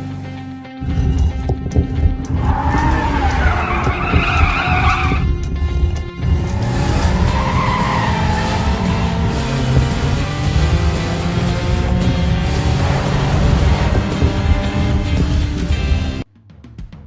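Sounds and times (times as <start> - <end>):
background music: 0.0 - 16.8
cartoon tyres squealing: 2.3 - 16.2.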